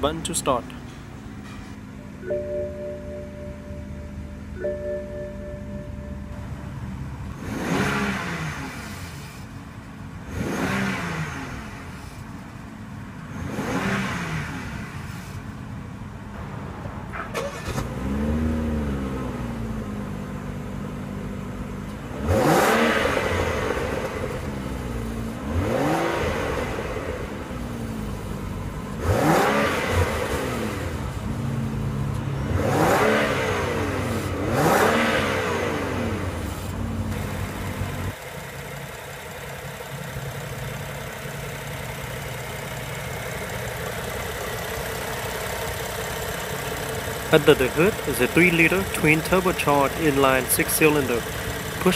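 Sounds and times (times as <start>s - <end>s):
car engine idling and revving: 0.0s - 51.9s.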